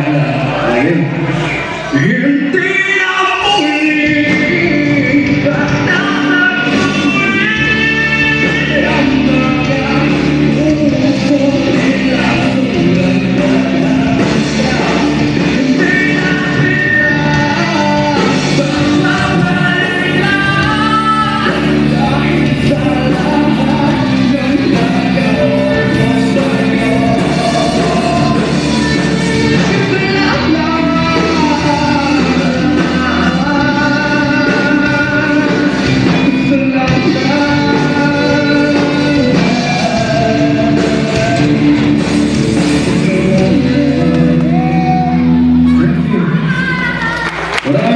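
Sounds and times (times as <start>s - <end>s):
lead singer singing: 0.0s - 47.9s
live rock band playing: 0.0s - 47.9s.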